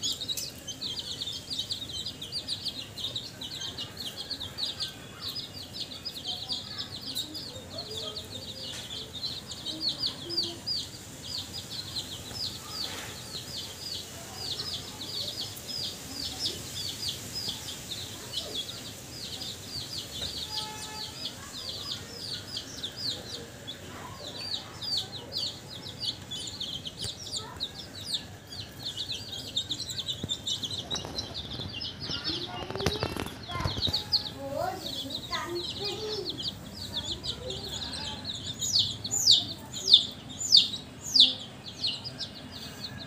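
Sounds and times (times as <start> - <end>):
chicks peeping: 0.0 - 43.0.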